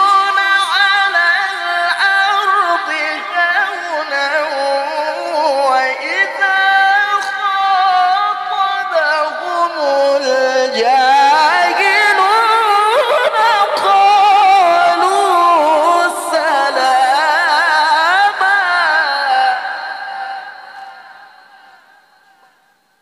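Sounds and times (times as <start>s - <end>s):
man chanting through a microphone: 0.0s - 22.5s.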